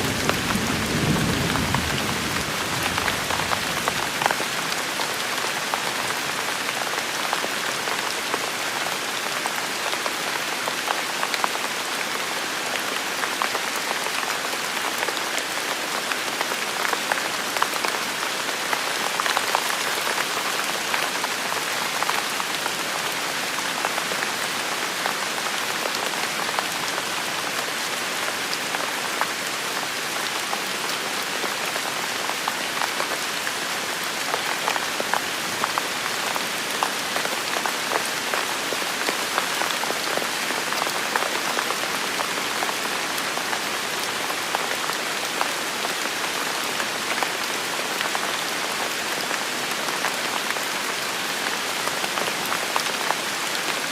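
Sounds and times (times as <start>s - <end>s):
rain on hard surfaces: 0.0s - 53.9s.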